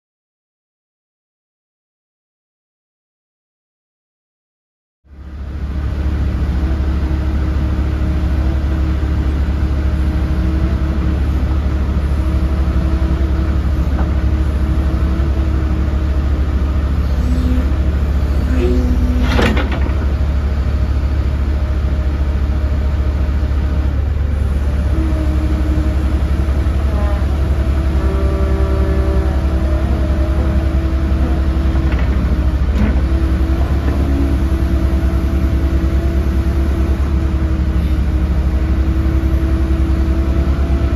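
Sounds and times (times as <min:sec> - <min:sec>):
excavator diesel engine running: 0:05.1 - 0:40.9.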